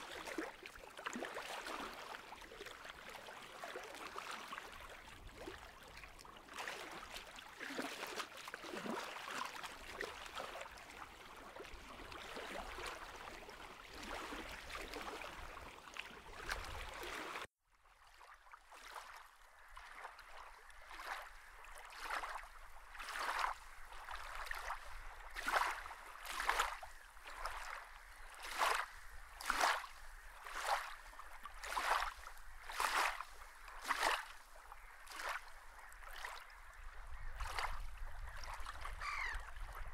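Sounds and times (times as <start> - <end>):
water swishing: 0.0 - 39.9.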